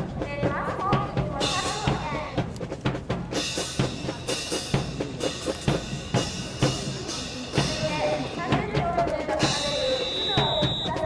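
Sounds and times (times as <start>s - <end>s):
bass and snare drum beat: 0.0s - 11.0s
drum-led music: 0.0s - 11.0s.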